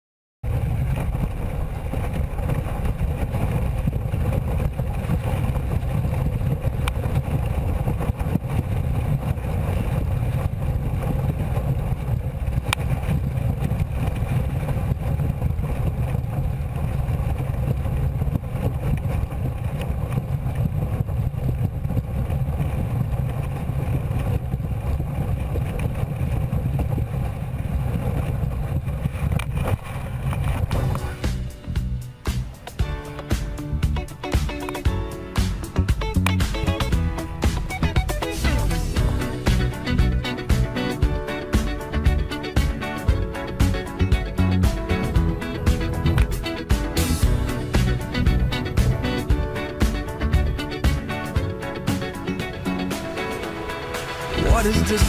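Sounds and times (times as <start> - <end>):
wind buffeting microphone: 0.4 - 55.0.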